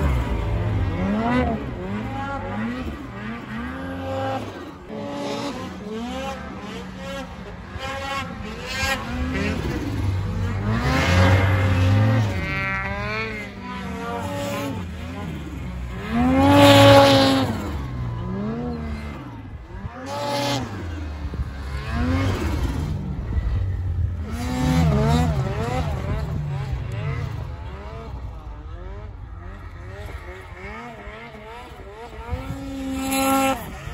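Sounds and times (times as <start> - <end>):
snowmobile engine revving: 0.0 - 33.9.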